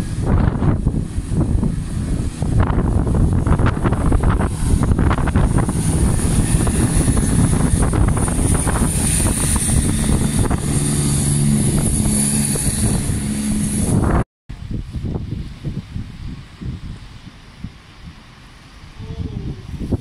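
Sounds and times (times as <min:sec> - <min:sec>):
train diesel engine drone: 0:00.0 - 0:20.0.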